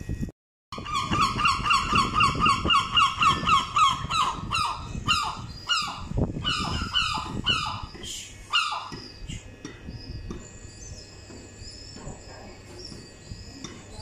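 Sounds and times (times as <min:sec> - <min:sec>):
gull calling: 0:00.8 - 0:14.0.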